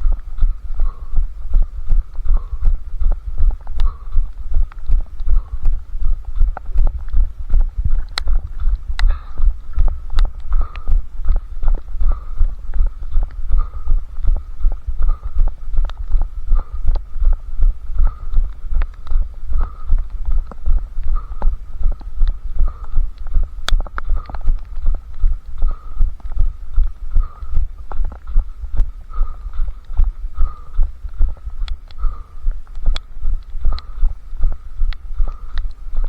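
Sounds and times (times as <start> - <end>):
light clicks and ticks: 0.0 - 36.0.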